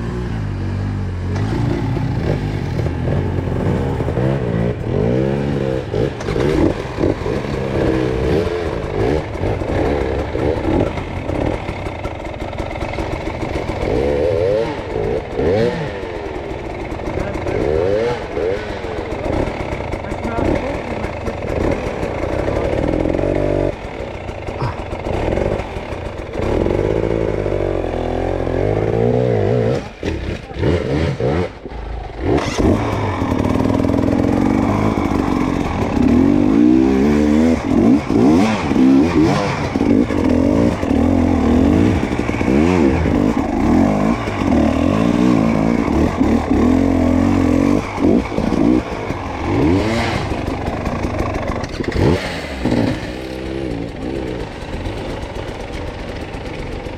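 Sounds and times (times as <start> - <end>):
dirt bike engine revving: 0.0 - 56.9
engine clatter: 0.0 - 56.9.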